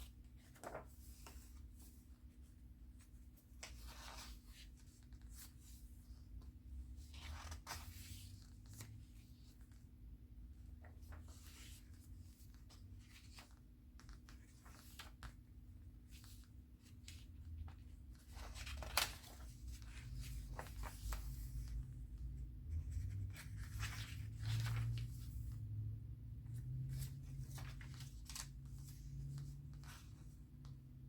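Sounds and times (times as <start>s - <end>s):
paper pages rustling: 0.0s - 10.0s, 10.6s - 25.7s, 26.6s - 30.7s.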